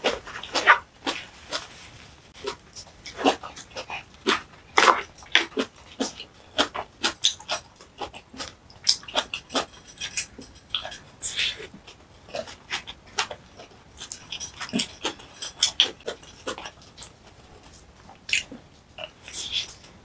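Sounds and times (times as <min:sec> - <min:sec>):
chewing and lip-smacking: 0:02.4 - 0:20.0.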